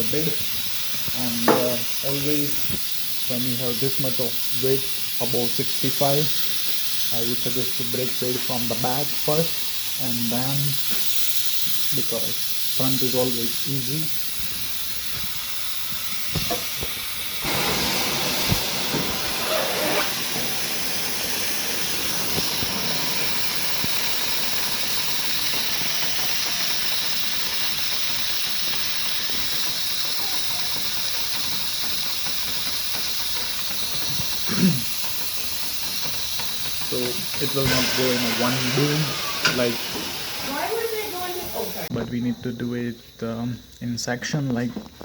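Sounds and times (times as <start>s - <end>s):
compressed air hissing: 0.0s - 41.9s.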